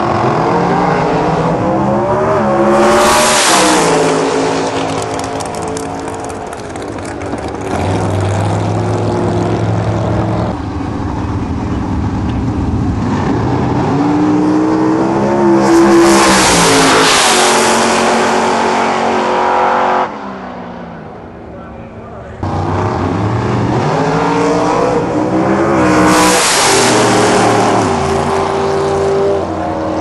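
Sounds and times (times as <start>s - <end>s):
drag racing car engines accelerating: 0.0s - 30.0s.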